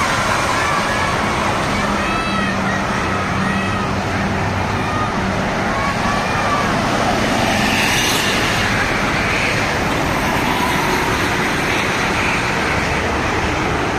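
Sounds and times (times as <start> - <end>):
road traffic passing: 0.0 - 13.9.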